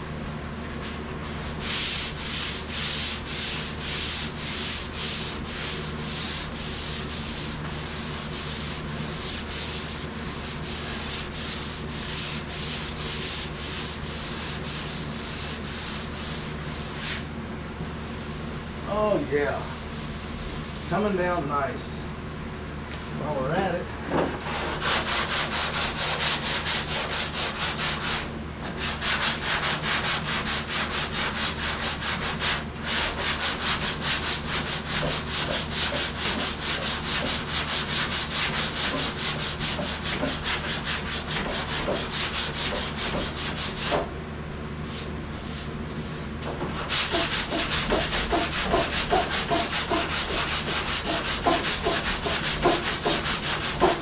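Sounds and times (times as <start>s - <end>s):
hand sanding with sandpaper: 0.8s - 17.3s, 17.9s - 21.1s, 24.4s - 44.0s, 44.8s - 54.0s.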